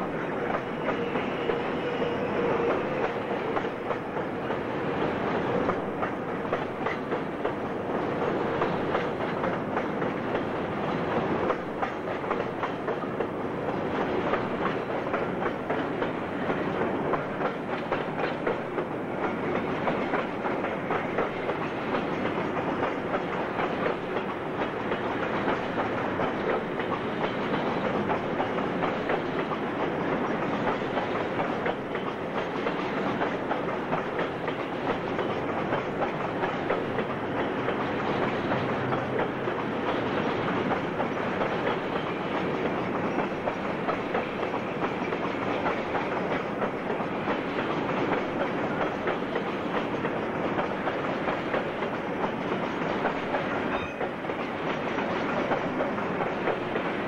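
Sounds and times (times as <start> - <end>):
freight train wheels clacking: 0.0 - 57.0.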